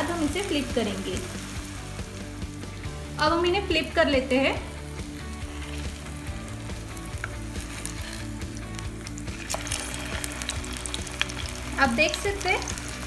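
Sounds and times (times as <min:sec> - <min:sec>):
patties sizzling in oil: 0:00.0 - 0:13.0.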